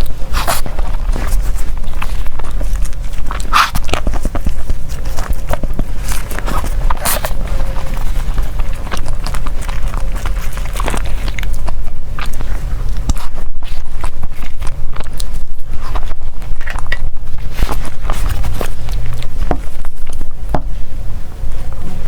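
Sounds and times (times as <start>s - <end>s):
chewing with mouth clicks: 0.0s - 22.0s.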